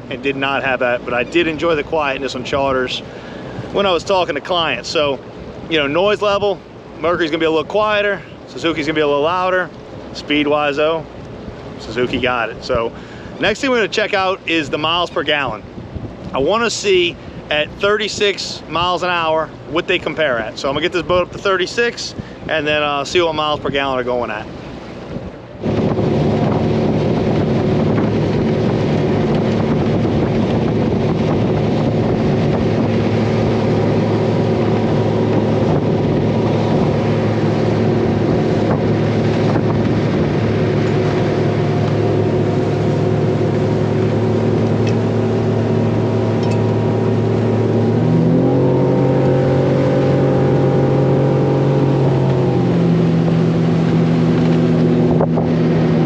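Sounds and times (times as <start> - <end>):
outboard engine drone: 0.0 - 56.0.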